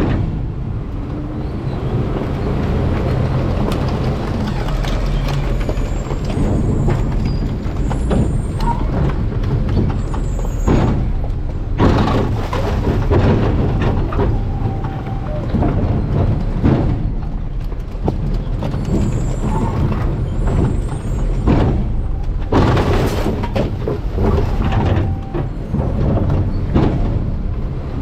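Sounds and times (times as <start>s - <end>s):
garbage truck engine rumble: 0.0s - 28.0s
knocks and clatter: 0.0s - 28.0s.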